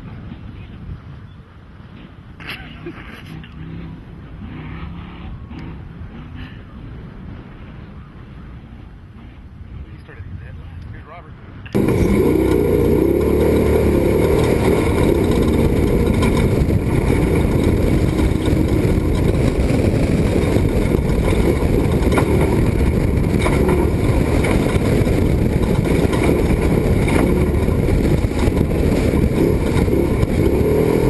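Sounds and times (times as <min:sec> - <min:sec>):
truck engine and road noise: 0:00.0 - 0:31.0.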